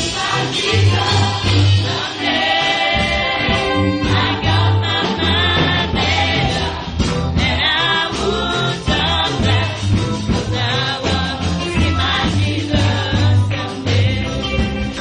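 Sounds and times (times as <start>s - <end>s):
band with electric guitar and bass: 0.0s - 15.0s
group of singers: 0.0s - 15.0s.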